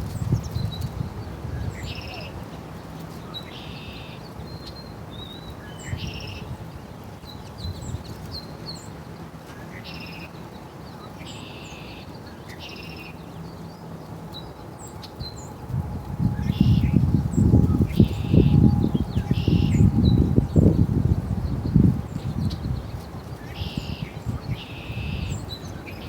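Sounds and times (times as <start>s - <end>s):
small birds chirping: 0.0s - 15.7s, 16.4s - 26.0s.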